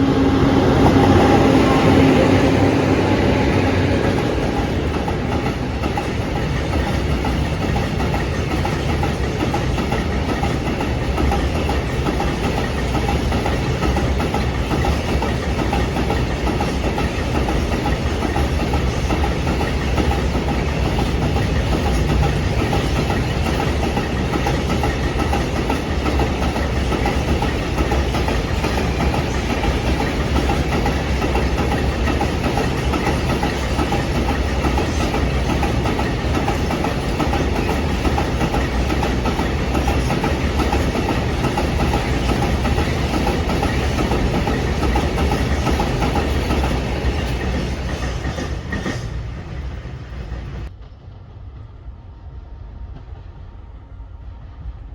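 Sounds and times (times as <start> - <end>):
train wheels clattering on rails: 0.0 - 53.8
train engine drone: 0.0 - 54.9.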